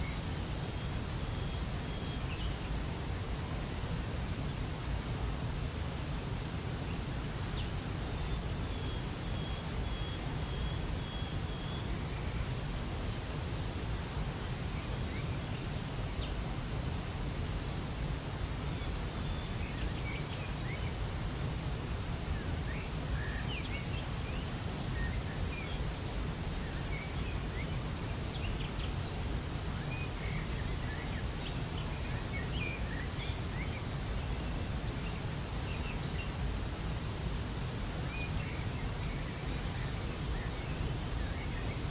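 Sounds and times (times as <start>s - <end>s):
small birds chirping: 6.3s - 41.9s.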